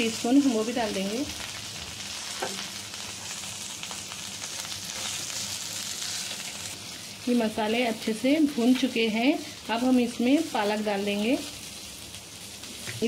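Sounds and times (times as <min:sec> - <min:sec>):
spices sizzling in oil: 0:00.0 - 0:13.0.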